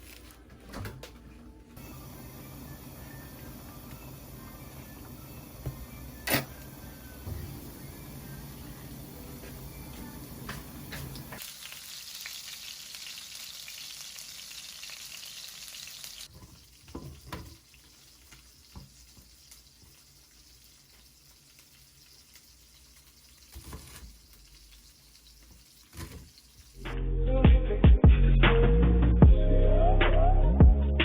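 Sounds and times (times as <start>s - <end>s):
food sizzling in a frying pan: 1.8s - 26.9s.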